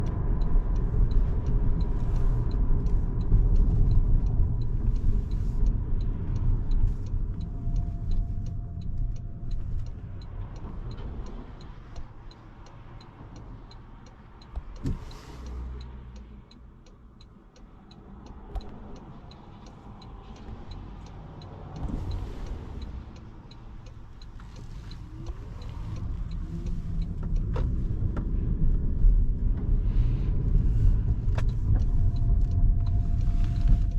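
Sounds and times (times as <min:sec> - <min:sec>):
light regular ticking: 0:00.0 - 0:33.9
road and tyre rumble in car: 0:00.0 - 0:33.9.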